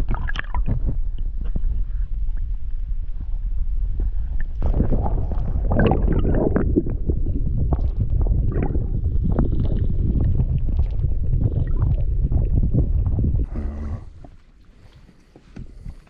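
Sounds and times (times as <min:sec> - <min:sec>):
underwater crackles and clicks: 0:00.0 - 0:13.5
muffled underwater rumble: 0:00.0 - 0:14.6.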